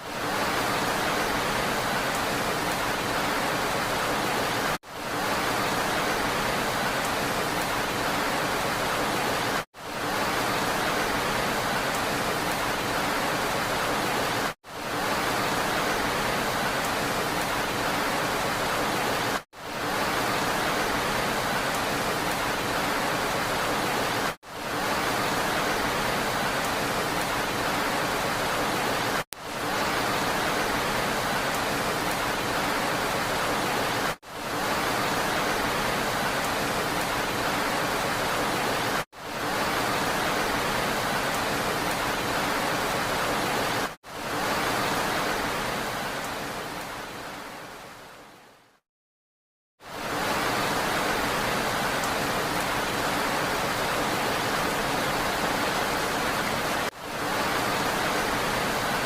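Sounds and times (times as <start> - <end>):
rain hissing: 0.0 - 48.1, 49.8 - 59.0.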